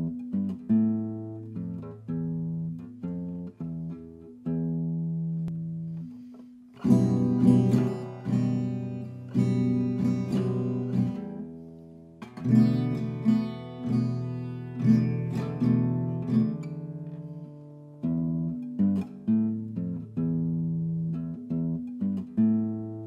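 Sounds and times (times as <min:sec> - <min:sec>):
guitar held notes: 0:00.0 - 0:23.0
guitar strummed chords: 0:00.0 - 0:23.0.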